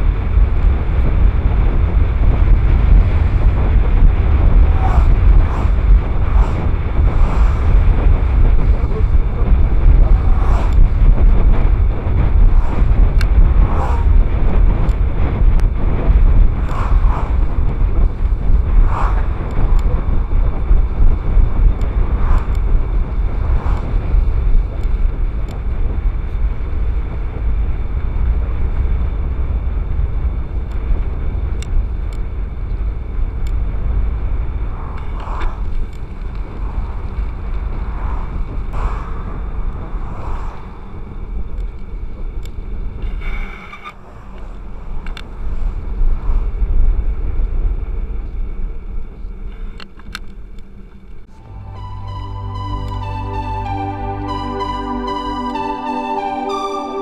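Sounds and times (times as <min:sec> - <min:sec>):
wind buffeting microphone: 0:00.0 - 0:52.2.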